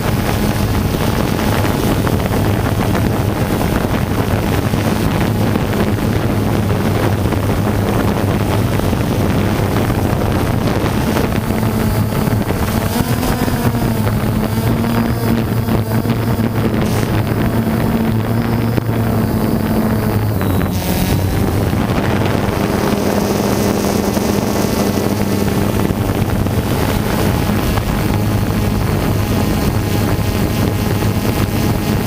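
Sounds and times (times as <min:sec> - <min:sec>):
aircraft motor drone: 0:00.0 - 0:32.0
wind noise on microphone: 0:00.0 - 0:32.0.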